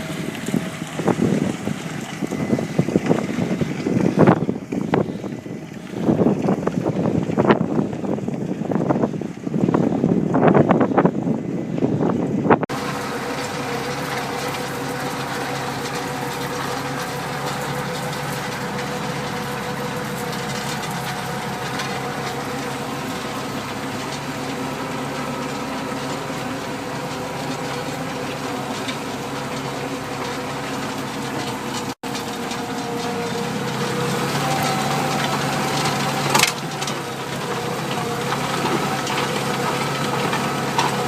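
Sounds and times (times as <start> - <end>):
tractor engine under load: 0.0 - 41.0.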